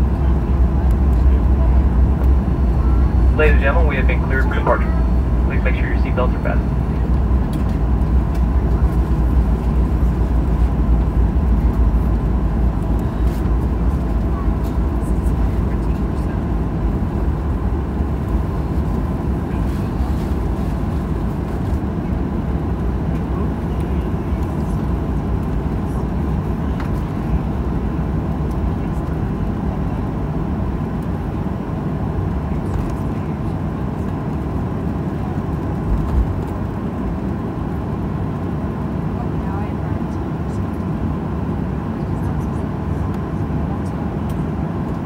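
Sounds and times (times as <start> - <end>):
airplane cabin engine rumble: 0.0 - 45.0
faint steady whine: 0.0 - 45.0.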